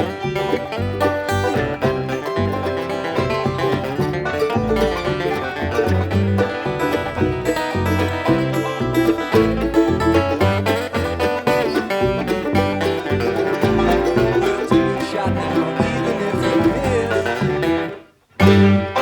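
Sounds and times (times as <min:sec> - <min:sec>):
bass line: 0:00.0 - 0:19.0
guitar: 0:00.0 - 0:19.0
picked banjo: 0:00.0 - 0:19.0.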